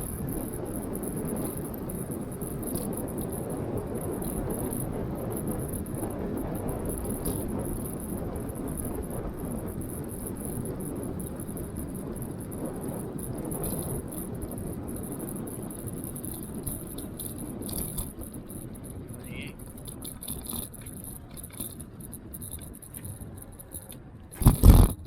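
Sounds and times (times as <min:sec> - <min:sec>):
high flickering rattle: 0:00.0 - 0:25.0
wind and tyre noise: 0:00.0 - 0:25.0.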